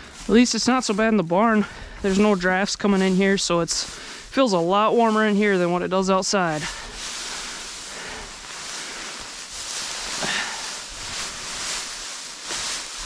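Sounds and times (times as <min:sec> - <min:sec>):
hay rustling: 0:00.0 - 0:13.0.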